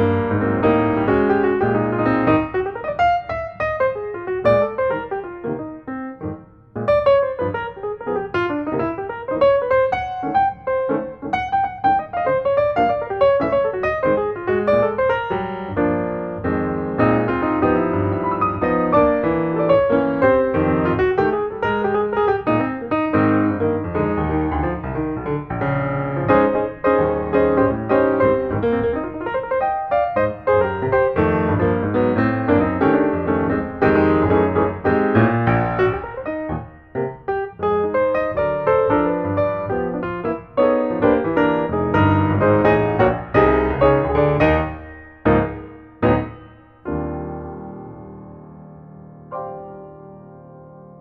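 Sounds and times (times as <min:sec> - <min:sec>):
piano music quick notes: 0:00.0 - 0:51.0.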